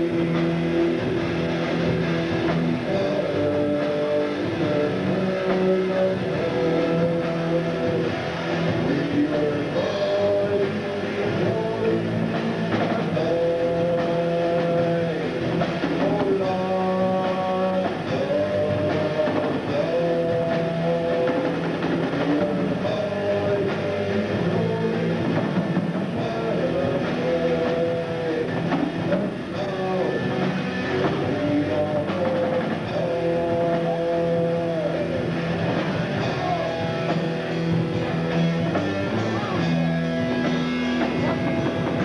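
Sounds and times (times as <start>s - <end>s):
live rock band playing: 0.0s - 42.0s
sliding guitar melody: 0.0s - 42.0s.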